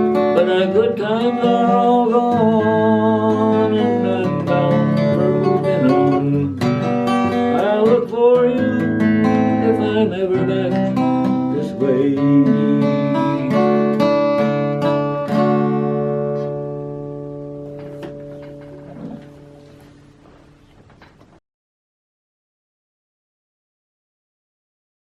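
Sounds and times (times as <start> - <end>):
acoustic guitar strumming: 0.0 - 21.2.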